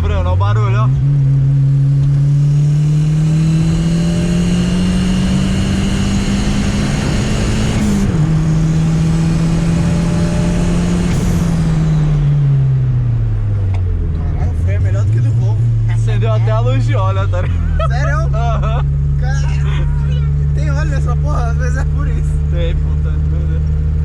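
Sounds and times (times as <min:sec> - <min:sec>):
car engine accelerating hard: 0:00.0 - 0:24.0
high turbo whine: 0:00.0 - 0:24.0.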